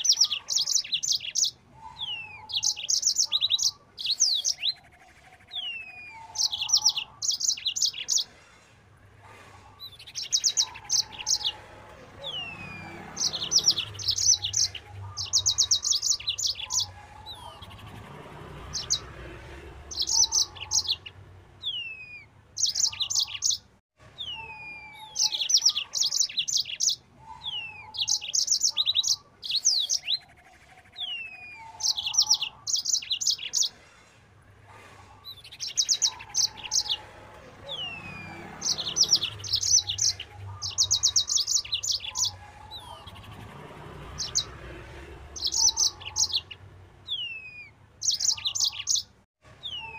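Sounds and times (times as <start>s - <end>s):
canary singing: 0.0s - 8.4s, 9.7s - 33.8s, 35.2s - 49.9s.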